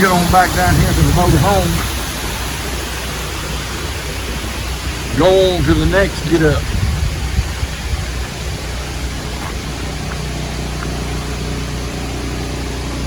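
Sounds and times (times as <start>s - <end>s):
portable generator humming: 0.0s - 13.0s.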